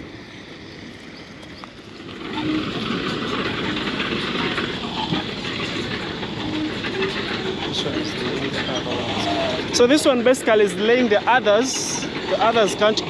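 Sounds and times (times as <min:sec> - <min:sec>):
vehicle engine: 0:01.6 - 0:13.0.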